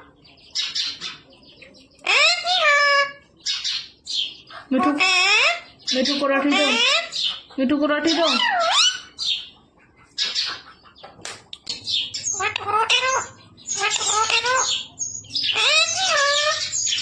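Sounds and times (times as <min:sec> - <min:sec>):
parrot chattering and squawking: 0:02.0 - 0:17.0.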